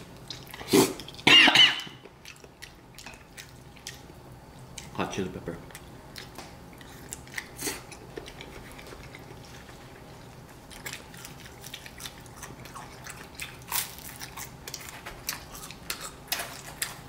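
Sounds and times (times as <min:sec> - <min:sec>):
quiet chewing: 0:00.0 - 0:01.2, 0:02.0 - 0:05.0, 0:05.6 - 0:17.0.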